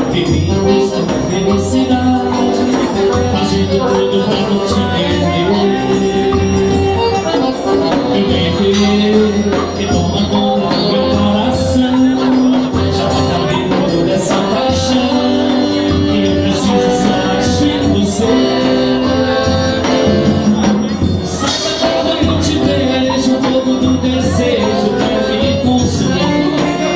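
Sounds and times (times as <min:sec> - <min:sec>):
live band playing dance music: 0:00.0 - 0:26.9.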